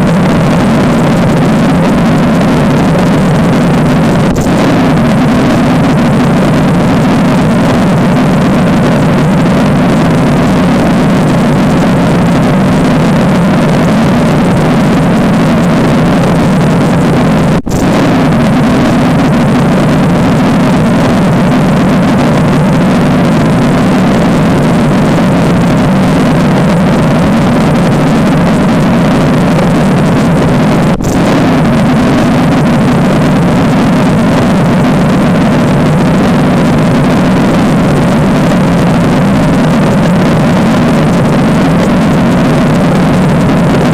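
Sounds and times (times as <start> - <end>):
low engine-like drone: 0.0 - 43.9.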